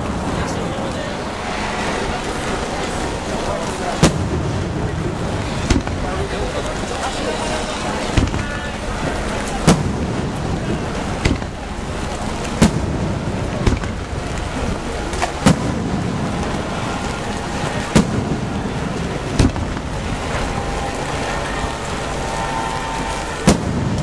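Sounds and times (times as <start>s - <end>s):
rain hissing: 0.0s - 24.0s
firework shells bursting: 1.2s - 21.3s.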